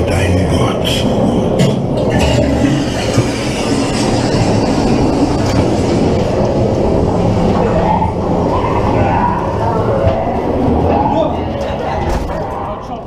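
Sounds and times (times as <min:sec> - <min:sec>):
ride car wheels rattling on rails: 0:00.0 - 0:13.0.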